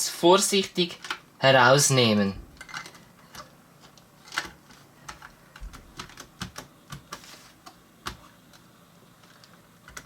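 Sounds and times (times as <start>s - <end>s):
light clicks and knocks of computer parts: 0.8s - 1.3s, 2.4s - 10.0s.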